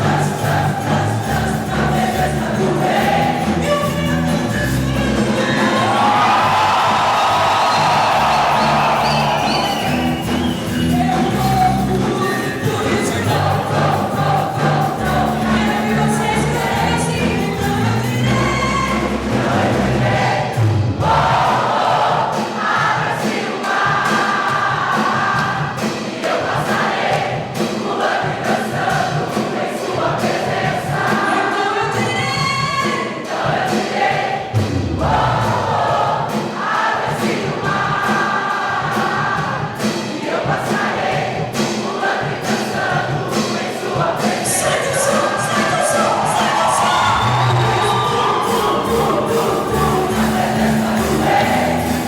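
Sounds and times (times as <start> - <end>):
musical accompaniment: 0.0 - 31.4, 33.3 - 52.0
group of voices singing: 0.0 - 52.0.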